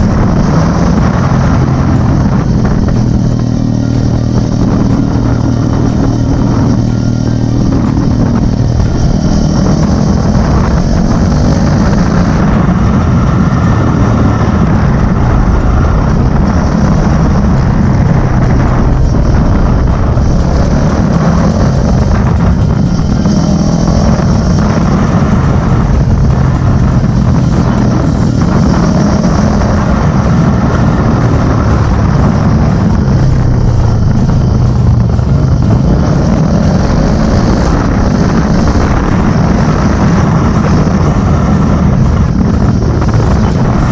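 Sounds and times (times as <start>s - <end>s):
motorcycle engine exhaust note: 0.0s - 43.9s.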